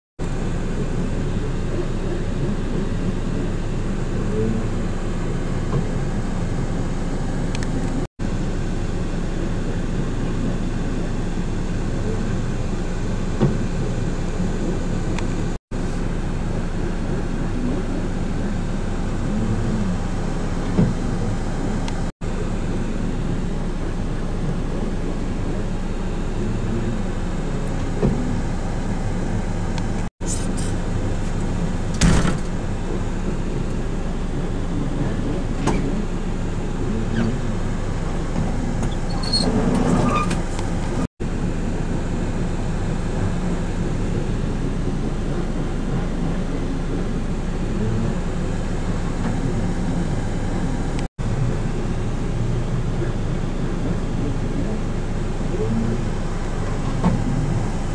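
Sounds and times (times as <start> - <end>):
engine running steadily: 0.2 - 57.9.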